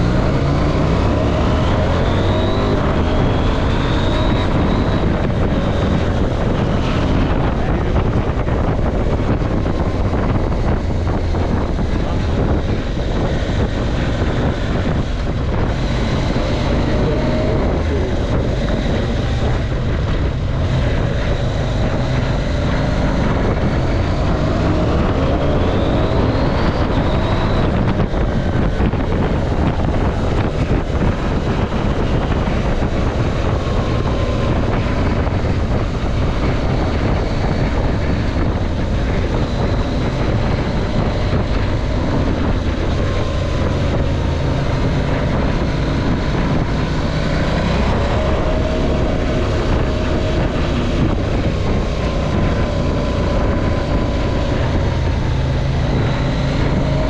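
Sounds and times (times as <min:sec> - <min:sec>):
motorcycle engine revving: 0:00.0 - 0:57.0
wind on microphone: 0:00.0 - 0:57.0.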